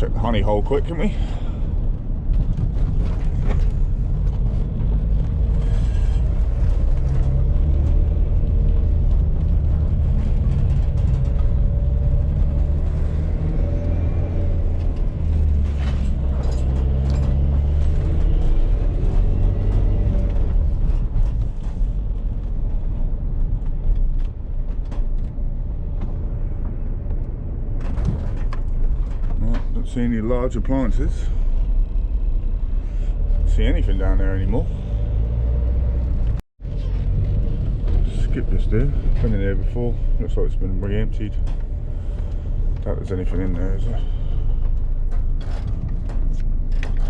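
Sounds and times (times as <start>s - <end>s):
road noise: 0.0s - 47.0s
van engine running: 0.0s - 47.0s.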